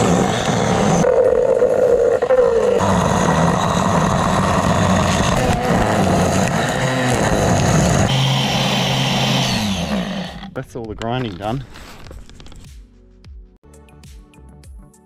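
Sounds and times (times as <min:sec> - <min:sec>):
angle grinder grinding wood: 0:00.0 - 0:12.6.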